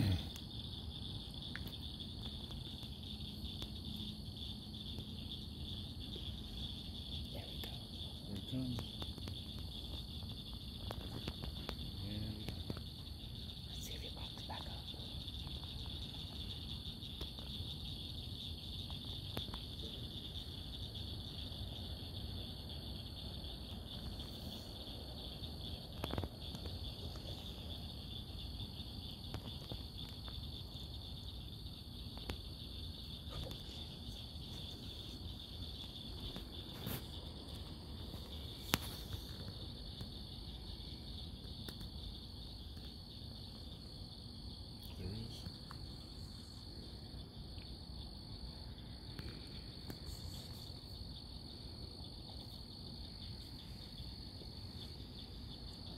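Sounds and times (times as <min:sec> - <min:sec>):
night insects trilling: 0:00.0 - 0:55.9.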